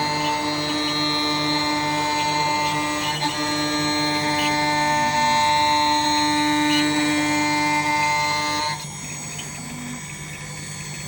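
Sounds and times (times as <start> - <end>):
engraving machine whining: 0.0 - 11.0
low machine hum: 0.0 - 11.0.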